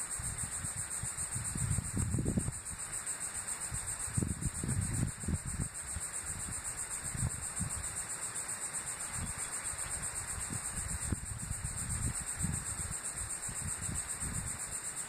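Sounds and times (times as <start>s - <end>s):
pulsing insect trill: 0.0s - 15.0s
wind buffeting microphone: 0.2s - 2.8s, 3.7s - 7.9s, 9.1s - 14.7s.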